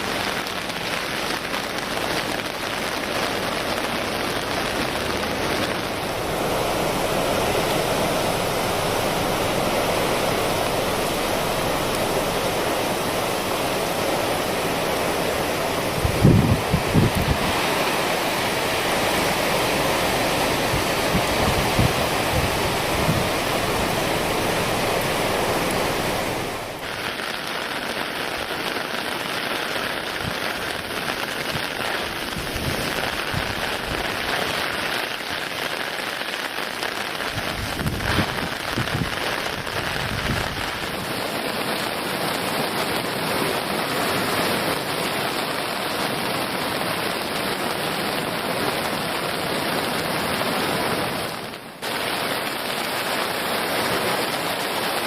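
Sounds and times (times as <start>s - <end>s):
heavy rain: 0.0s - 55.0s
rushing river water: 0.0s - 55.0s.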